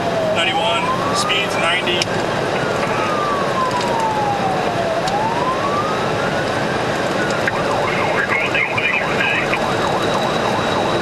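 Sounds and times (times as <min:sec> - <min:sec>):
police siren wailing and yelping: 0:00.0 - 0:11.0
road and engine noise: 0:00.0 - 0:11.0.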